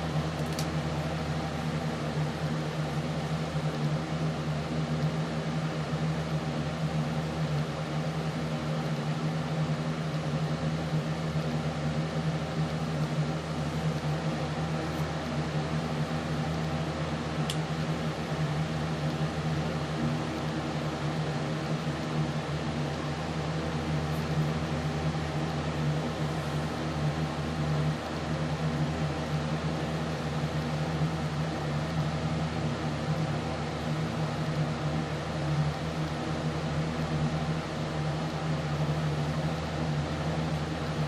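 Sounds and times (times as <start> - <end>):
machine humming: 0.0 - 41.0.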